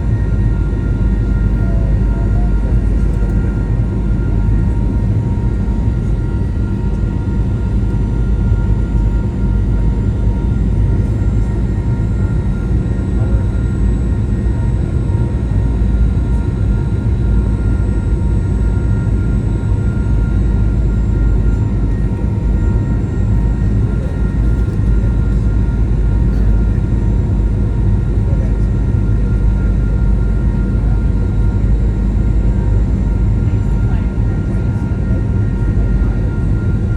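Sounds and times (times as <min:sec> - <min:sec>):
jet engine cabin drone: 0:00.0 - 0:36.9.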